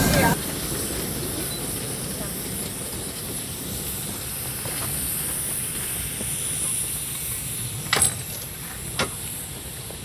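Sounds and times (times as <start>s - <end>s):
locomotive running rumble: 0.0s - 10.0s
steam hiss: 0.0s - 10.0s.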